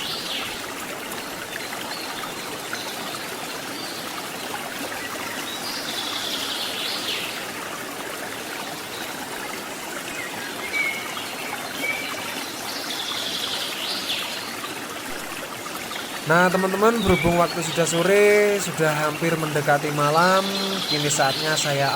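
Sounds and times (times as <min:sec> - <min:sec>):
rushing river water: 0:00.0 - 0:21.9.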